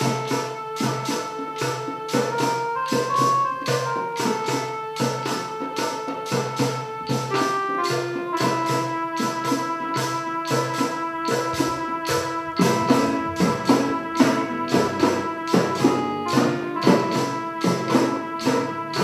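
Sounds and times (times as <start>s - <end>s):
held melody notes: 0.0s - 19.0s.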